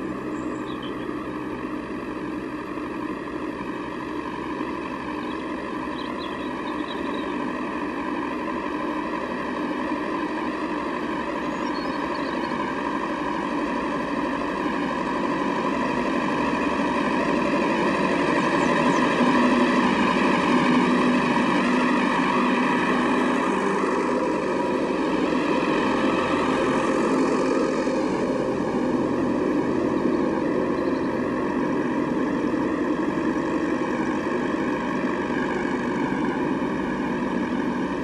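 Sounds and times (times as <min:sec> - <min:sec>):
tractor engines running: 0:00.0 - 0:38.0.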